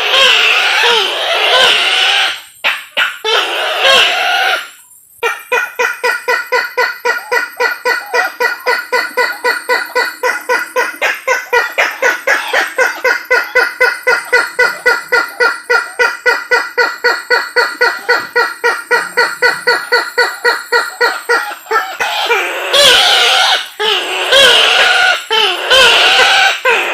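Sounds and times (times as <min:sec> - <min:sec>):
bird loud clucking notes: 0:00.0 - 0:26.9.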